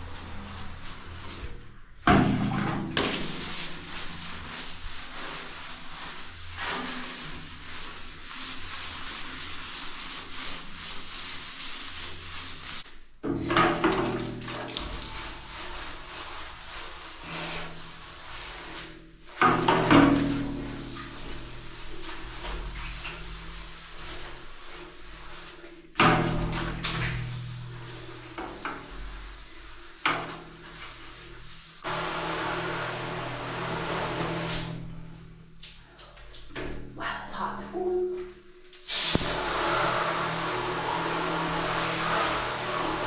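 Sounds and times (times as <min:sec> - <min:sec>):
brush scrubbing metal tank: 0:00.0 - 0:37.5, 0:38.8 - 0:43.0.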